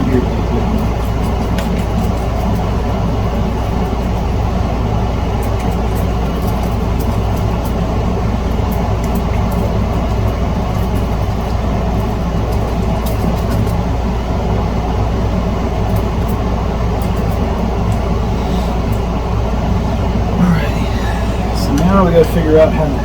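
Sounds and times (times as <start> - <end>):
mechanical hum with whir: 0.0 - 23.0.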